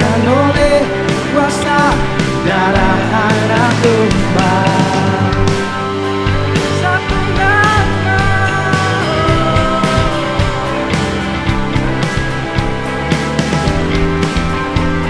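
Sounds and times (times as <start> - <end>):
bass: 0.0 - 15.0
drums keeping steady beat: 0.0 - 15.0
sliding lead melody: 0.0 - 15.0.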